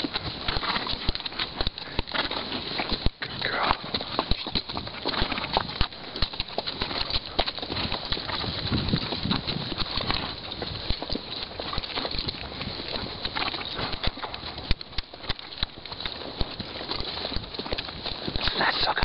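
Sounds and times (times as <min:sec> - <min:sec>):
horse hooves clopping on stony ground: 0:00.0 - 0:19.0.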